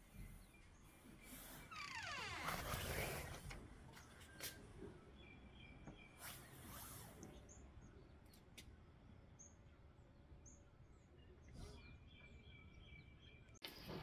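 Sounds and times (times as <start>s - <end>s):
small birds chirping: 0.0s - 13.9s
faint outdoor ambience: 0.0s - 14.0s.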